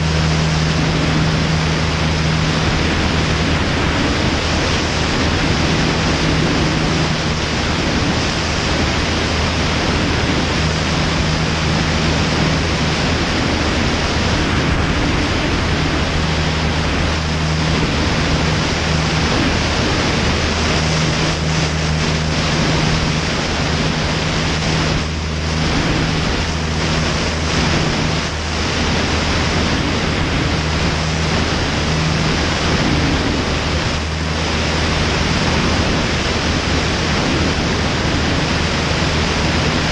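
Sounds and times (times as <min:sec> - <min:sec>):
aircraft engine and propeller drone: 0:00.0 - 0:39.9
wind buffeting microphone: 0:00.0 - 0:39.9.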